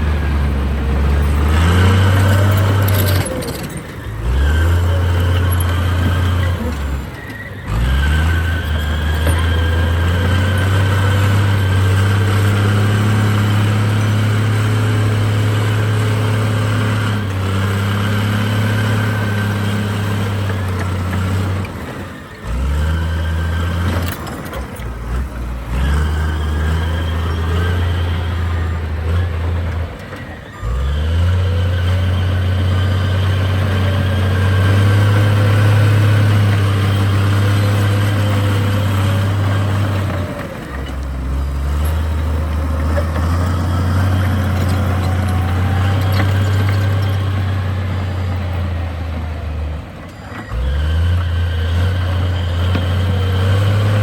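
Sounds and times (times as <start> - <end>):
heavy diesel engine revving: 0.0 - 54.0.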